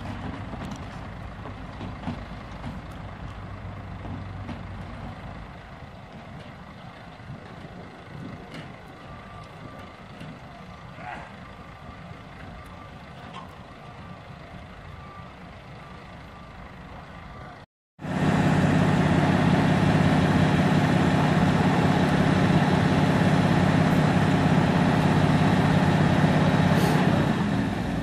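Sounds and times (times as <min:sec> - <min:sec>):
diesel lorry engine idling: 0:00.0 - 0:28.0.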